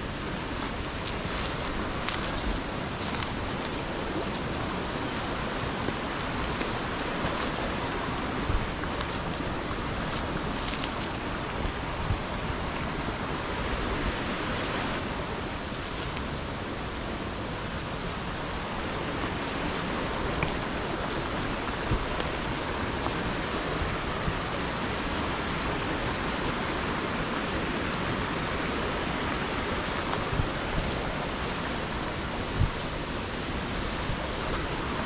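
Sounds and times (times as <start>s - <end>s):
stream water rushing: 0.0s - 35.0s.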